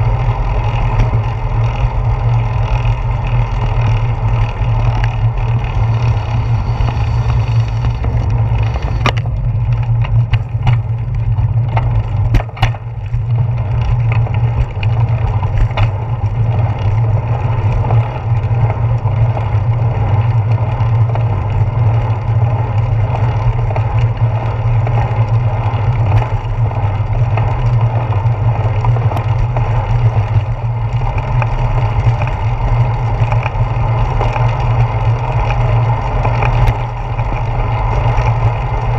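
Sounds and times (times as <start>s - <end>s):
tyres rolling on pavement: 0.0s - 38.9s
wind buffeting camera: 0.0s - 38.9s.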